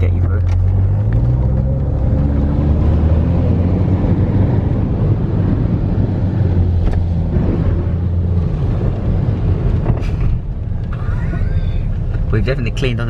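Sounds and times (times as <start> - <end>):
car engine pulling away: 0.0 - 12.9.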